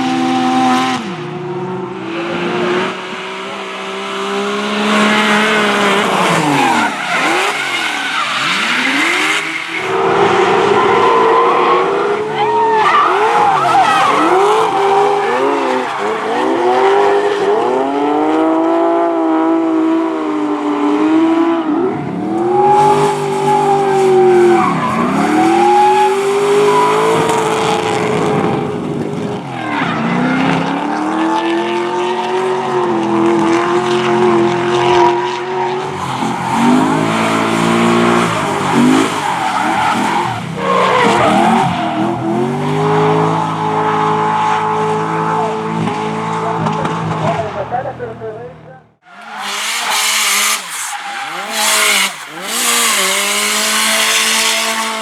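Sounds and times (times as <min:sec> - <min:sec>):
car engine revving hard: 0:00.0 - 0:47.8, 0:49.0 - 0:55.0
tyres squealing and skidding: 0:02.0 - 0:18.5, 0:21.8 - 0:31.2, 0:34.8 - 0:47.8, 0:49.0 - 0:55.0.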